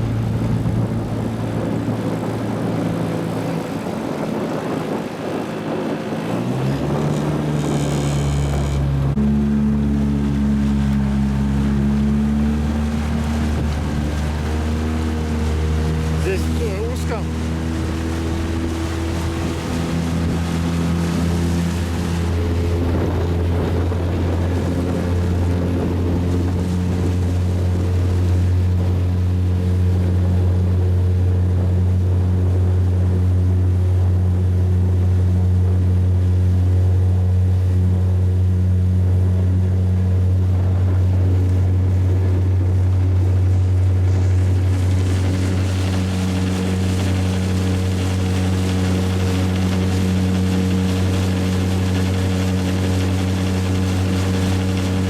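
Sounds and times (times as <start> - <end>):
small boat motor running: 0.0 - 55.0.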